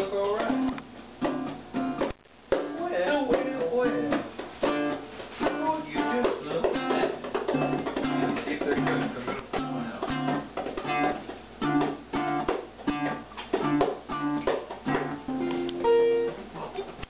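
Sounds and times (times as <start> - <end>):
acoustic guitar playing: 0.0 - 16.8.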